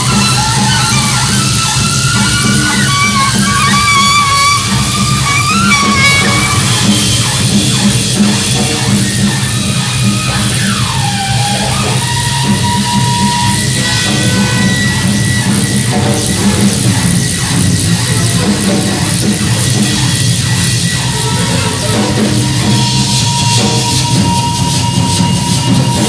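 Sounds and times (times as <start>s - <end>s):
dense electronic noise: 0.0s - 26.0s
drum kit pounding: 0.0s - 26.0s.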